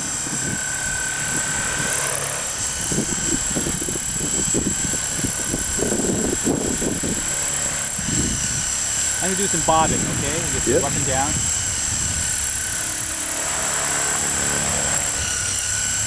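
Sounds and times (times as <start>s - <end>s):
electric motor whine: 0.0s - 16.0s
rotors whirring: 0.0s - 16.0s.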